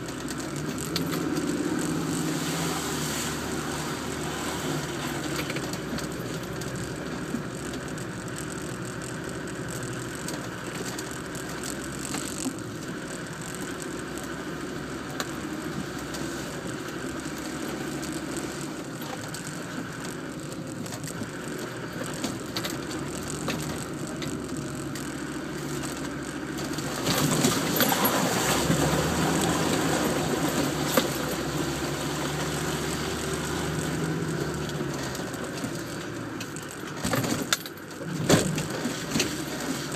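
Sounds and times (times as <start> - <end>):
vehicle engine running: 0.0 - 39.9
clicks and rattles from car body: 3.6 - 32.4, 33.8 - 39.9.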